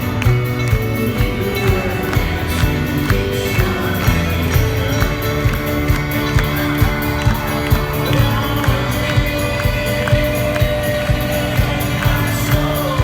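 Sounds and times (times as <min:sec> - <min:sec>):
kick drum beat: 0:00.0 - 0:13.0
live folk-rock band playing: 0:00.0 - 0:13.0.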